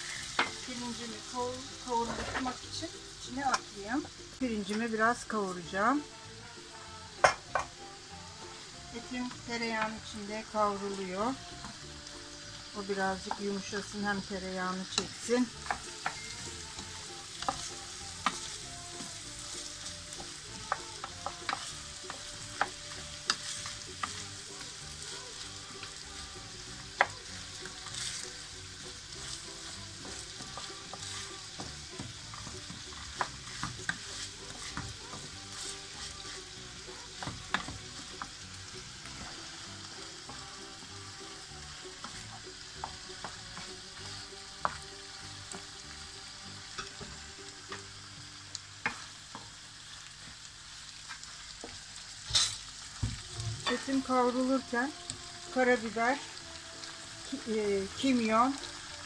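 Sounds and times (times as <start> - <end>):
rice sizzling in a frying pan: 0.0 - 59.0.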